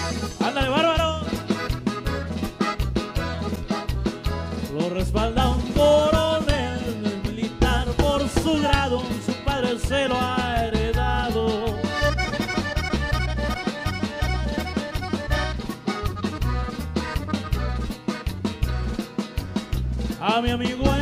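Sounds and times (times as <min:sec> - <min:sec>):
accordion melody: 0:00.0 - 0:21.0
pulsing bass: 0:00.0 - 0:21.0
steady beat: 0:00.0 - 0:21.0.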